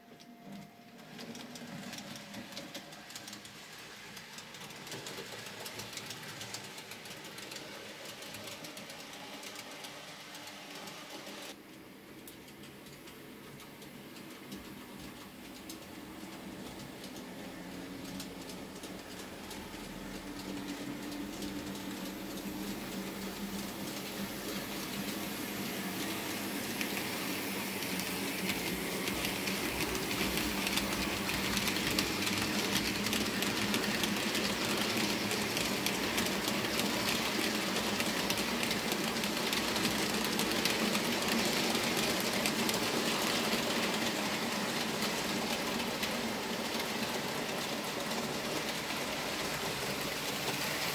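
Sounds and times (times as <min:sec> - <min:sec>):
wheels clicking on track: 0:00.2 - 0:50.9
model train motors whirring: 0:00.9 - 0:50.9.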